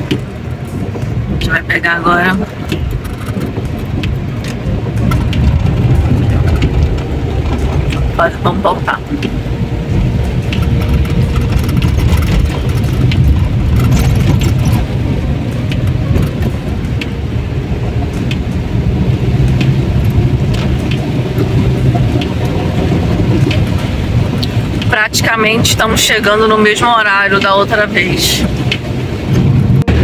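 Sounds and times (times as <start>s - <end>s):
engine and tyres on wet road: 0.0s - 30.0s
rain spattering on windscreen: 0.0s - 30.0s.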